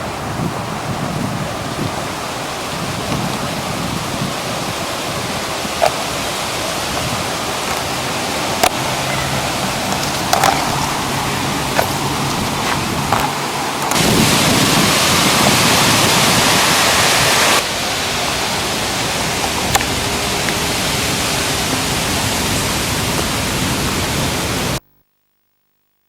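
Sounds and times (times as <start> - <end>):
steady rushing noise: 0.0 - 24.8.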